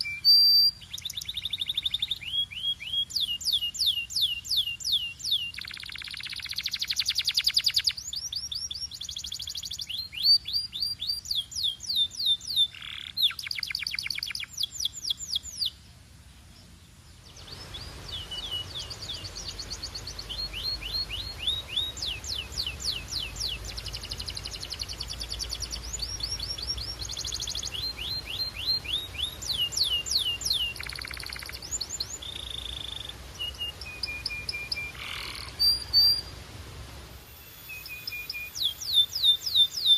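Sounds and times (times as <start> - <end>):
canary singing trills: 0.0 - 15.8, 17.2 - 36.4, 37.3 - 39.9.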